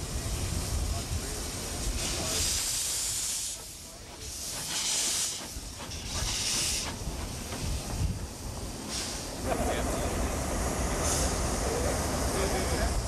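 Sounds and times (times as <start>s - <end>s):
steam locomotive hissing puffs: 0.0s - 13.0s.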